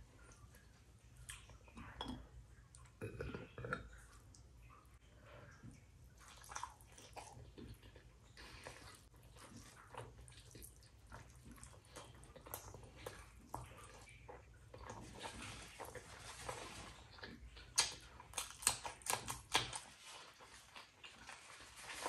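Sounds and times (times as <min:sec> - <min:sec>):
wet chewing and food smacks: 0:00.2 - 0:02.0, 0:05.5 - 0:22.0.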